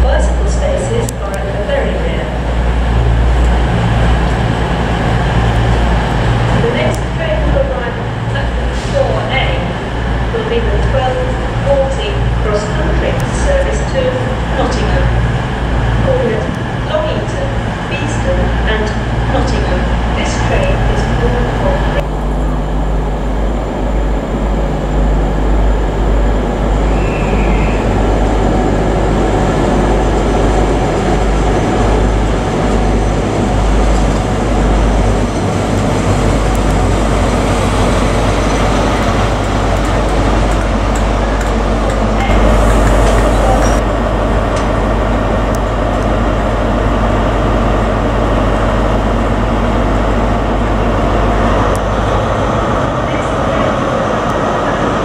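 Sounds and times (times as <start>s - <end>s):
diesel train engine hum: 0.0s - 55.0s.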